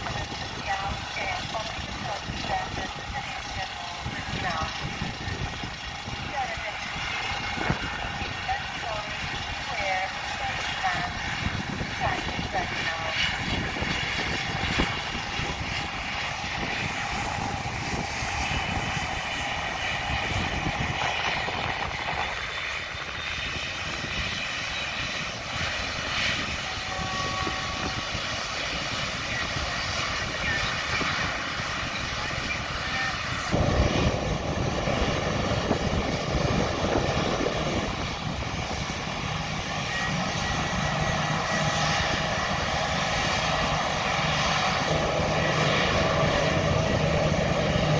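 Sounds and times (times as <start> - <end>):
jet engine whine and rumble: 0.0 - 47.9.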